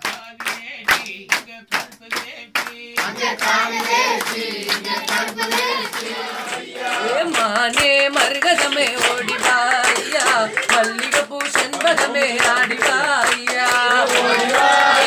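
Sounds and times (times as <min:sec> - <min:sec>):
men singing devotional song: 0:00.0 - 0:15.0
people clapping in rhythm: 0:00.0 - 0:15.0.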